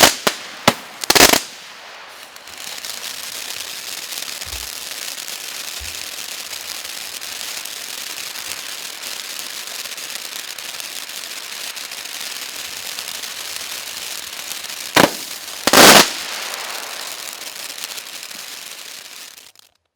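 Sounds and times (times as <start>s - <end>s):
firework bangs: 0.0s - 19.5s
firework fountain hissing and crackling: 0.0s - 19.9s.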